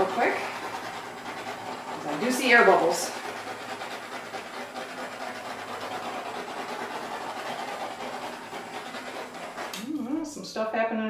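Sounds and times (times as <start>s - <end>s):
torch flame hissing: 0.0s - 10.3s.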